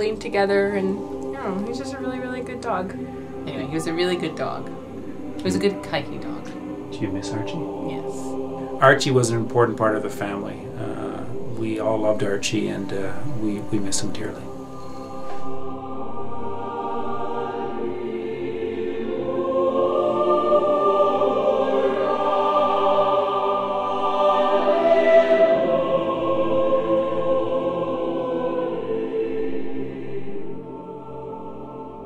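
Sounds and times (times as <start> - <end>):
choir singing held chords: 0.0 - 32.0.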